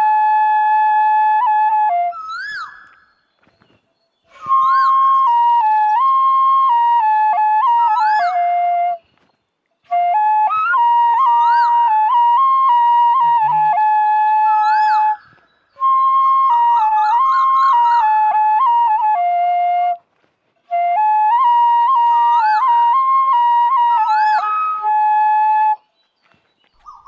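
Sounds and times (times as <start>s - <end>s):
bamboo flute slow melody: 0.0s - 26.3s.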